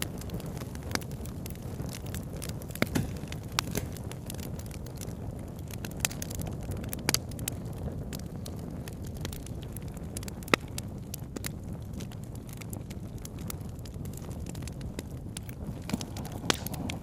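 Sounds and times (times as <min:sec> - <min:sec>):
campfire crackling: 0:00.0 - 0:17.0
fire snaps and pops: 0:00.0 - 0:17.0
low fire rumble: 0:00.0 - 0:17.0.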